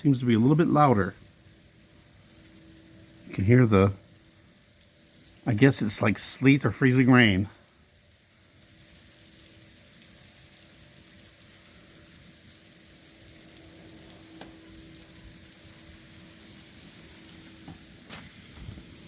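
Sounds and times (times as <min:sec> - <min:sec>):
freezing rain hissing: 0:00.0 - 0:19.0
steady low hum: 0:00.0 - 0:19.0.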